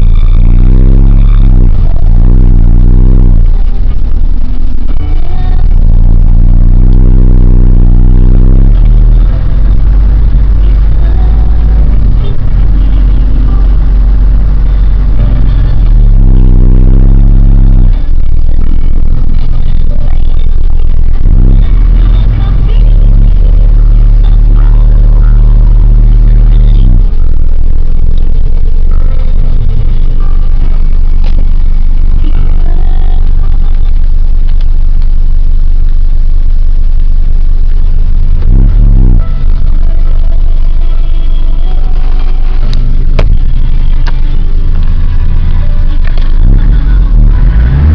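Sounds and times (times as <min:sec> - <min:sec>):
even engine tone: 0:00.0 - 0:47.9
pickup truck engine rumble: 0:00.0 - 0:47.9.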